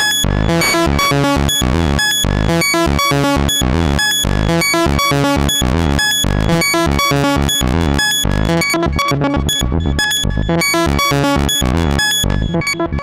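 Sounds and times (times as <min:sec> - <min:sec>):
synthesizer playing fast sequence: 0:00.0 - 0:13.0.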